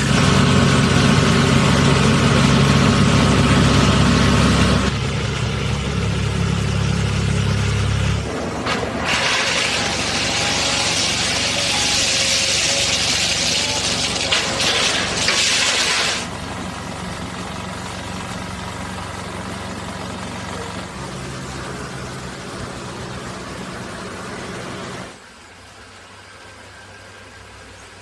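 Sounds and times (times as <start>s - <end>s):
distant diesel engines humming: 0.0s - 28.0s.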